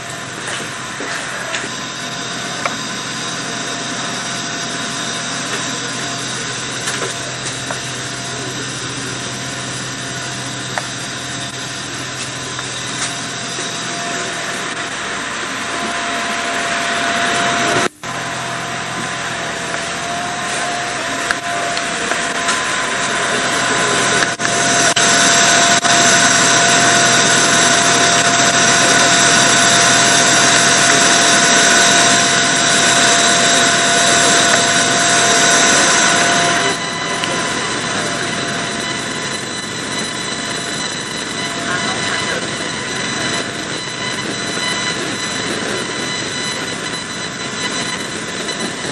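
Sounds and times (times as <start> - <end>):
diesel train engine with whine: 0.0 - 48.9.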